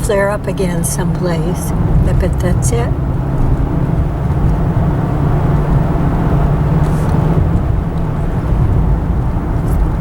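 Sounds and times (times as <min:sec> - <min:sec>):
car engine hum: 0:00.0 - 0:10.0.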